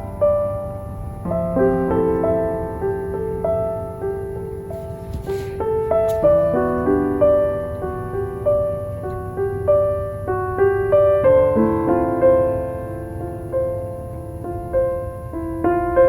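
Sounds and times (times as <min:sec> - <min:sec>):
gentle piano music: 0:00.0 - 0:16.0
low background hiss: 0:00.0 - 0:16.0.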